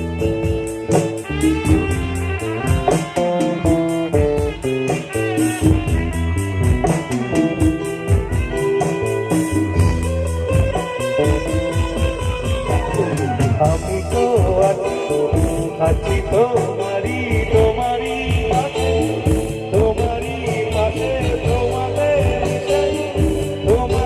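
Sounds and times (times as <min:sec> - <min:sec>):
melodic instrumental lead: 0:00.0 - 0:24.0
steady drum beat: 0:00.0 - 0:24.0.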